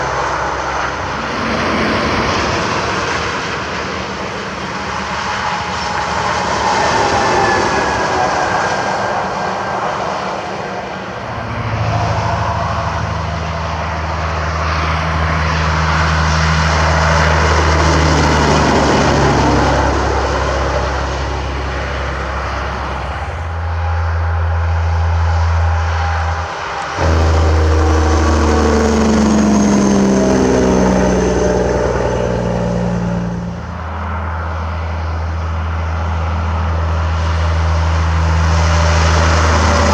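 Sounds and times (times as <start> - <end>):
diesel truck engines: 0.0 - 39.9.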